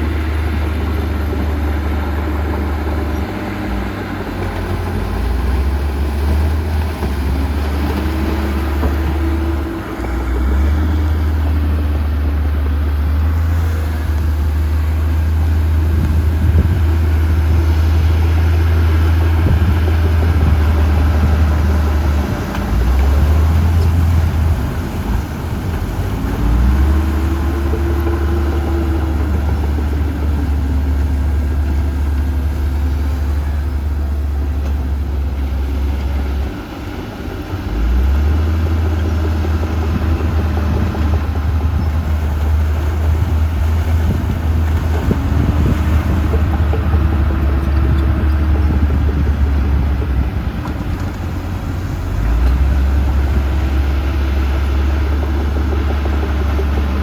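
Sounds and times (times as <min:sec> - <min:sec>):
heavy machinery engine rumble: 0:00.0 - 0:57.0.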